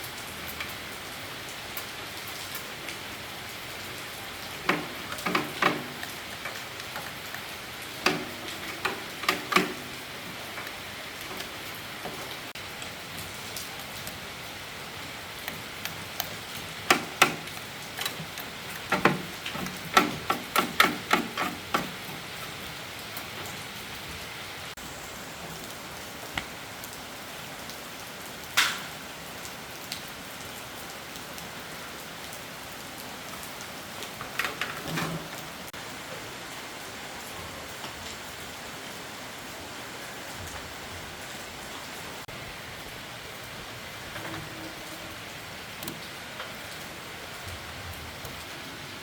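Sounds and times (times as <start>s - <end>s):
heavy rain hissing: 0.0s - 49.0s.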